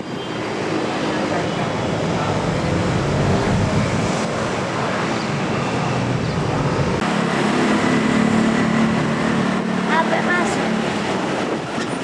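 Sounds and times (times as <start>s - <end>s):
bus engines running: 0.0s - 12.0s
traffic noise: 0.0s - 12.0s
low engine hum: 1.1s - 11.1s.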